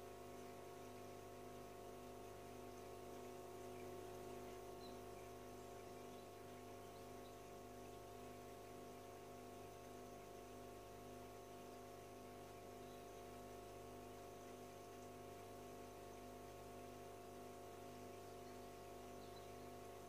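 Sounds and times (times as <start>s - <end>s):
aquarium filter motor humming: 0.0s - 20.0s.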